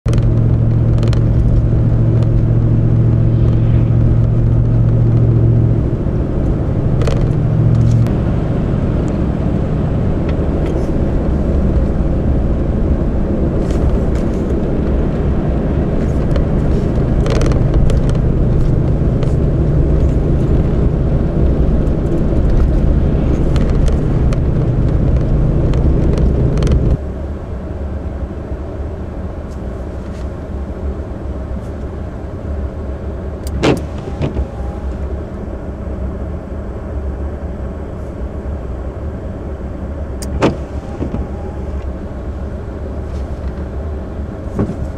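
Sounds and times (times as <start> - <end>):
car engine and road drone: 0.0 - 44.9.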